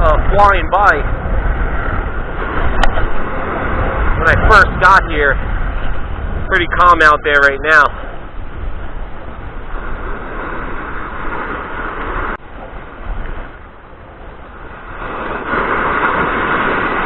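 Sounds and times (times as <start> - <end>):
surf breaking on beach: 0.0 - 17.0
wind noise: 0.0 - 17.0.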